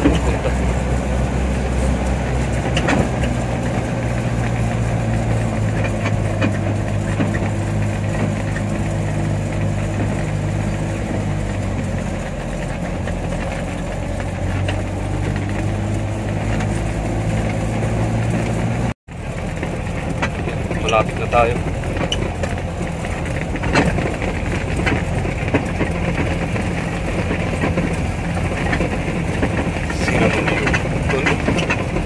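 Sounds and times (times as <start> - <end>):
knocks and rattles: 0.0 - 32.0
vehicle engine humming: 0.0 - 32.0.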